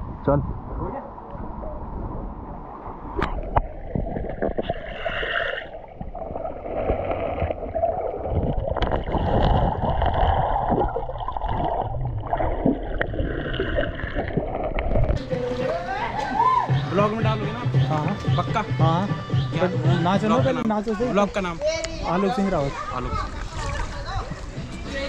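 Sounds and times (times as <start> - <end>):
stream water sloshing and gurgling: 1.1 - 18.8, 22.5 - 25.0.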